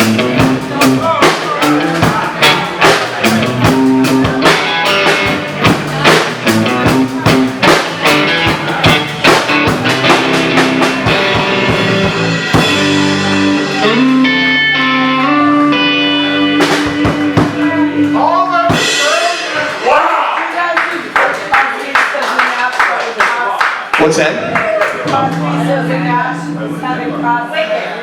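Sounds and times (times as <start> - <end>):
rock band playing: 0.0 - 21.1, 24.3 - 28.0.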